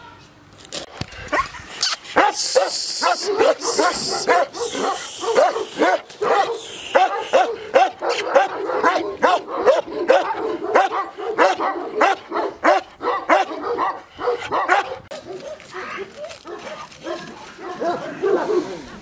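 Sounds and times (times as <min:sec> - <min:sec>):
dog barking: 0:02.2 - 0:18.9.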